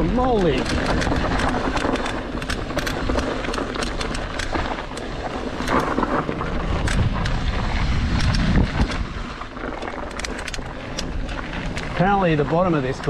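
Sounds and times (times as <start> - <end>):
wind on microphone: 0.0 - 12.0
bike clicking and rattling: 0.0 - 13.0
tyres rumbling on dirt: 0.0 - 13.0.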